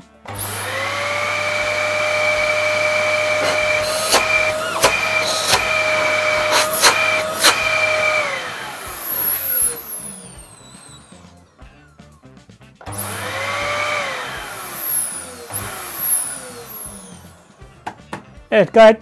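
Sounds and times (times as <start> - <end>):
vacuum cleaner motor whining: 0.0 - 12.0, 12.8 - 18.1.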